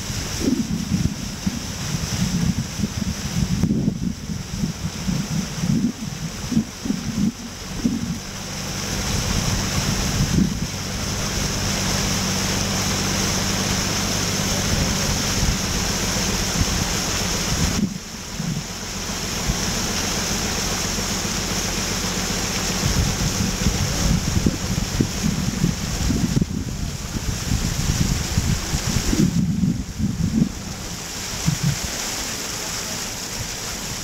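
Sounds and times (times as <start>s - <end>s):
motorboat engine running: 0.0s - 34.0s
rush of wind and water: 0.0s - 34.0s.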